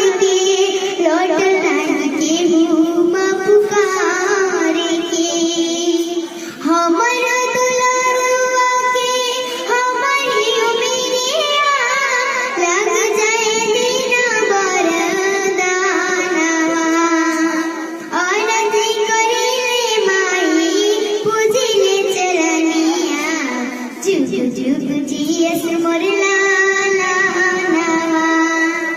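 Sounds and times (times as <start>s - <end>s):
girl singing: 0.0s - 28.9s.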